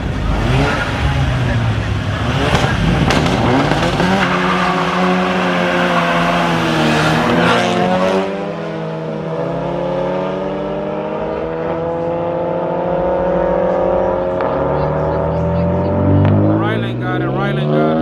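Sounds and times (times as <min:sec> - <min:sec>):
car engines running hard: 0:00.0 - 0:18.0
engine note climbing: 0:00.0 - 0:18.0.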